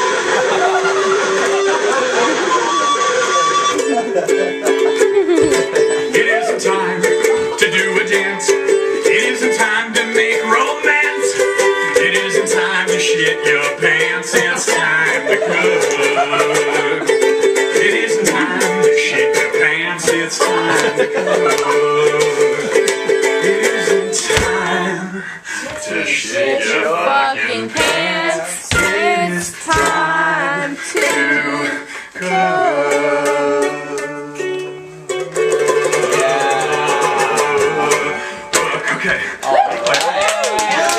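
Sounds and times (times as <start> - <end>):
ukulele strummed: 0.0 - 39.4
person singing: 0.0 - 39.6.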